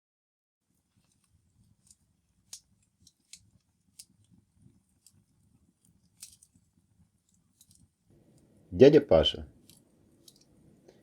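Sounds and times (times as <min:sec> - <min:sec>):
wood fire crackling and popping: 0:00.7 - 0:11.0.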